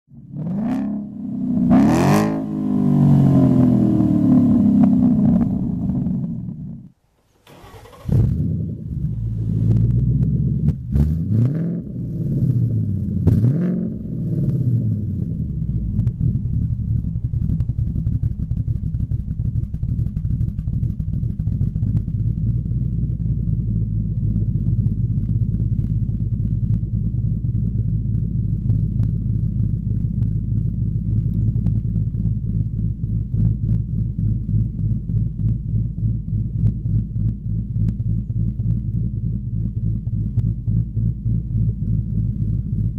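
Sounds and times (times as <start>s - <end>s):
car engine revving and idling: 0.1s - 42.9s.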